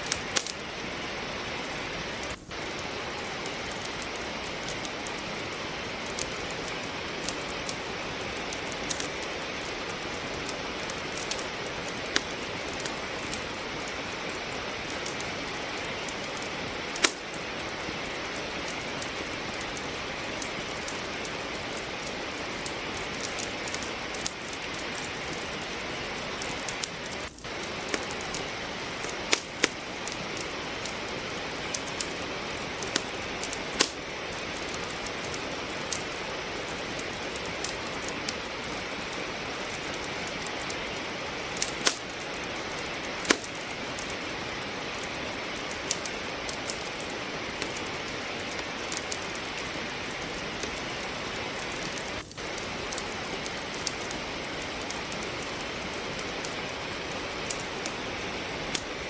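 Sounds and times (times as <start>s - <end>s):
rain hiss: 0.0s - 59.0s
wood fire crackling: 0.0s - 59.0s.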